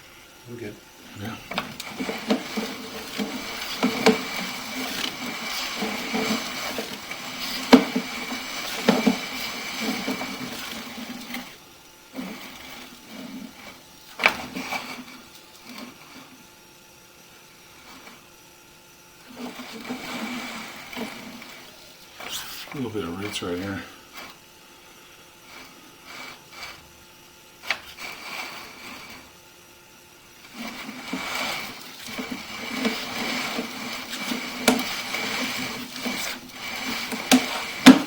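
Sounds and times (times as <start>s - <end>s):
camera cable whirring: 0.9s - 29.4s, 30.2s - 38.0s.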